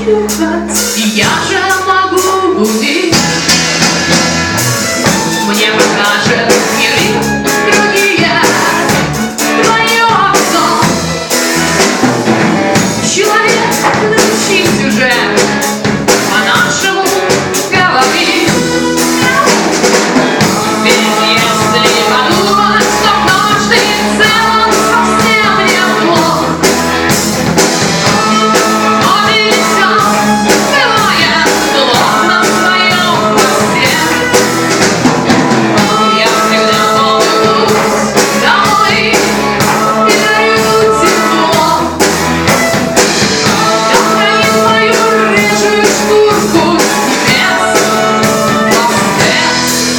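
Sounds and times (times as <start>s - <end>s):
person singing: 0.0s - 3.6s, 4.6s - 11.4s, 12.8s - 26.7s, 27.9s - 35.0s, 35.6s - 42.6s, 43.2s - 49.9s
live rock band: 0.0s - 49.9s.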